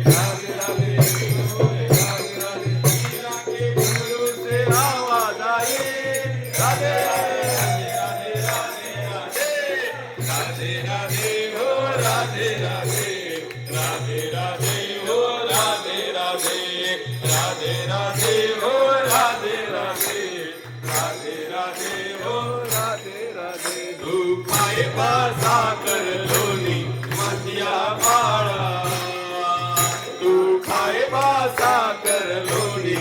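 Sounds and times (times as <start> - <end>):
devotional music with percussion: 0.0 - 33.0.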